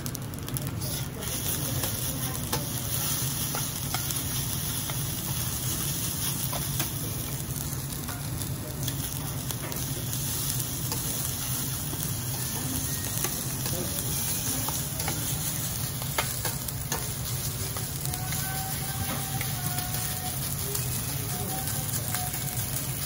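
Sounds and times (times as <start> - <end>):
rice sizzling on a griddle: 0.0 - 23.0.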